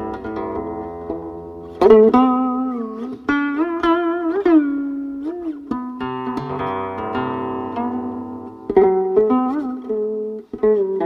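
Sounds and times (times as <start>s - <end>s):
plucked zither strings: 0.0s - 11.0s.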